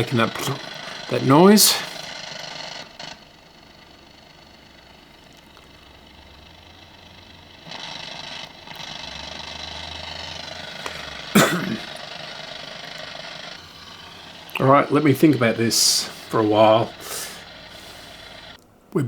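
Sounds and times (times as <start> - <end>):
radio humming and buzzing: 0.0 - 18.6.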